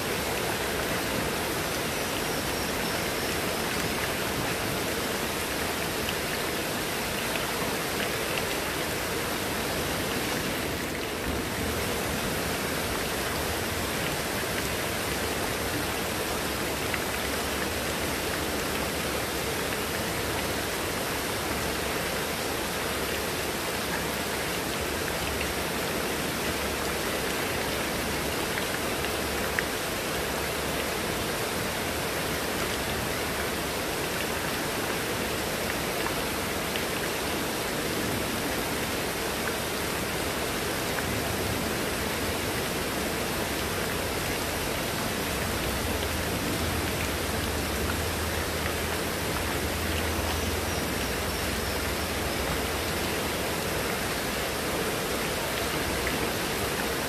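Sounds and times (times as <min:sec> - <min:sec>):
heavy rain falling: 0:00.0 - 0:57.0
runoff streaming off a roof: 0:00.0 - 0:57.0.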